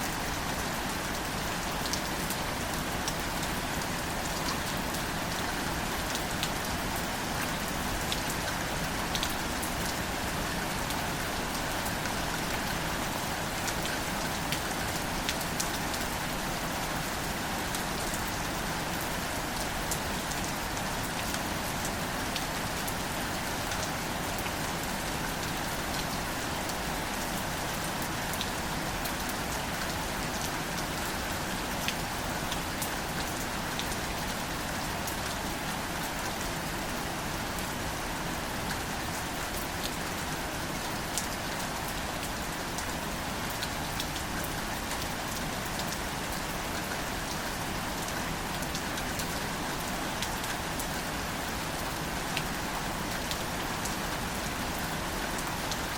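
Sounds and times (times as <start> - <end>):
raindrops ticking on leaves: 0.1 - 55.9.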